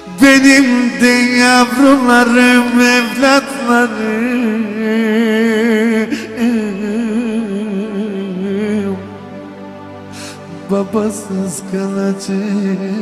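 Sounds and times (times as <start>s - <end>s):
man singing with vibrato: 0.0s - 9.2s, 10.3s - 13.0s
electronic keyboard: 0.0s - 13.0s.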